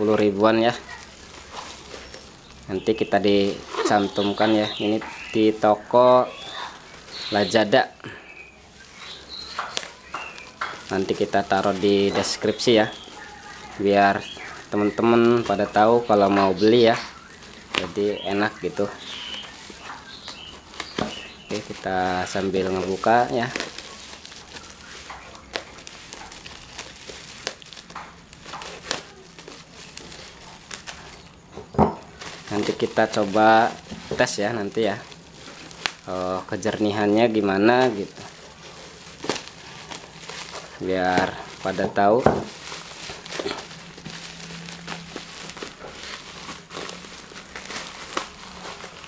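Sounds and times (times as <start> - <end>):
plastic wrapping crinkling: 0.0 - 49.0.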